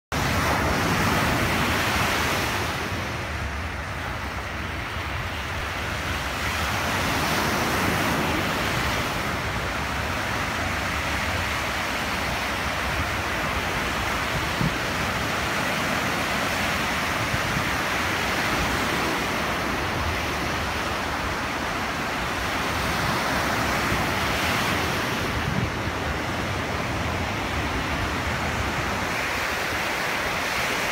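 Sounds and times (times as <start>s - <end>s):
waves breaking on sandy shore: 0.1s - 30.9s.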